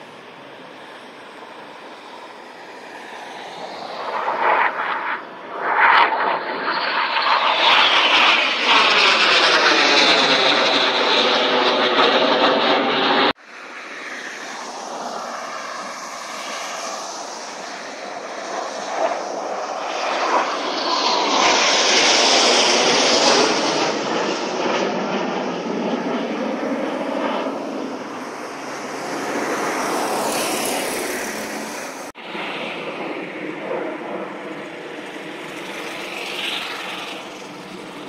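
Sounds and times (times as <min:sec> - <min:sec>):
jet aircraft flying over: 0:00.0 - 0:38.0.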